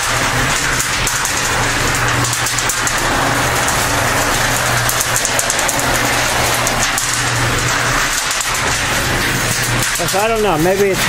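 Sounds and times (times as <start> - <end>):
cement mixer running: 0.0 - 11.0
fast even rattle: 0.0 - 11.0.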